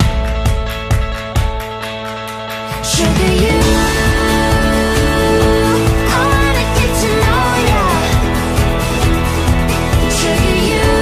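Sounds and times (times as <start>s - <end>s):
pop song with steady beat: 0.0s - 11.0s.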